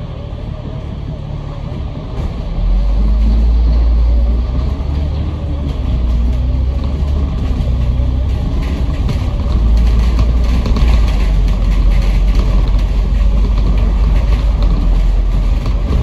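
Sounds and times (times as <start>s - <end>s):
bus engine rumble: 0.0s - 16.0s
engine and gearbox whine: 0.0s - 16.0s.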